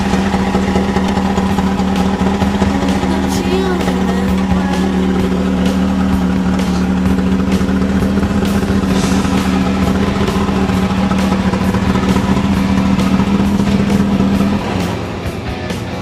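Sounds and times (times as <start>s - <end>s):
buggy engine revving high: 0.0s - 16.0s.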